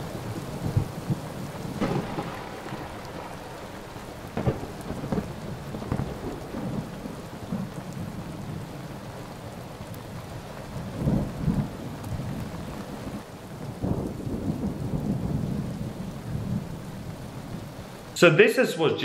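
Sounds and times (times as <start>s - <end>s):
thunder rolling: 0.0s - 9.0s, 10.8s - 17.7s
steady rain: 0.0s - 19.0s.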